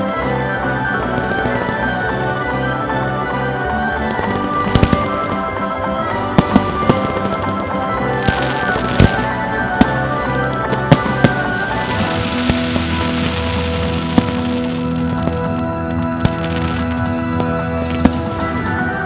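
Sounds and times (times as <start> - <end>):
firework bangs: 0.0 - 19.0
music: 0.0 - 19.0
crackling firework shells: 0.8 - 19.0.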